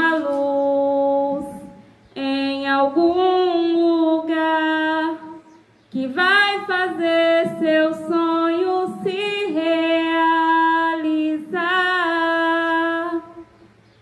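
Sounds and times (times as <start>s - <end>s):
woman singing slow song: 0.0s - 13.8s.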